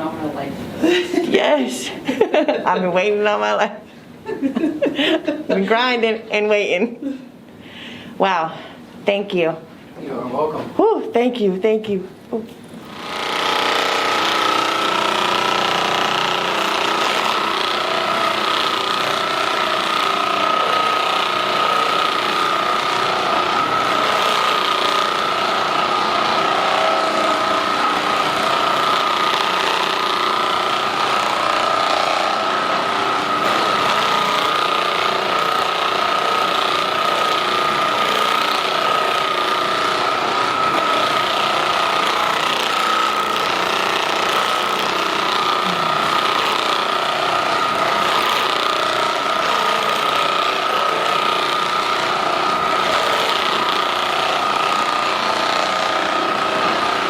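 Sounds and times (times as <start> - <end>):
massage gun whining: 0.0 - 9.5, 12.4 - 57.0.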